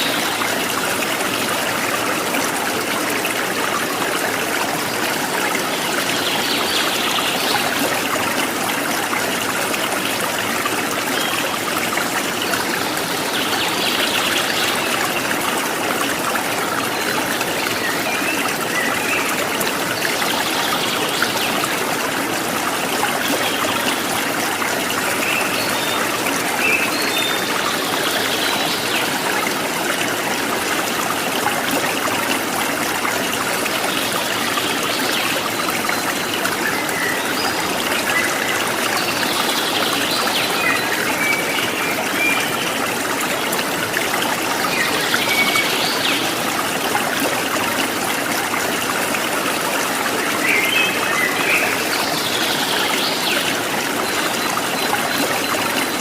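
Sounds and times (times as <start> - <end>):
water rushing in a stream: 0.0 - 56.0.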